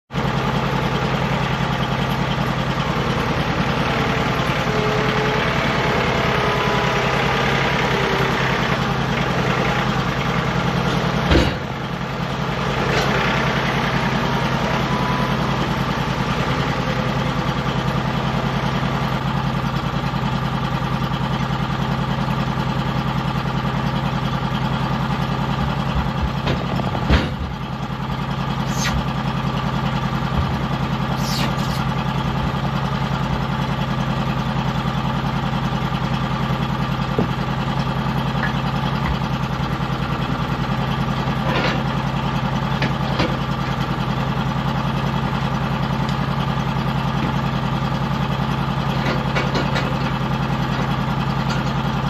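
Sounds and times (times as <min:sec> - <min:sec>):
engine idling: 0:00.1 - 0:52.0.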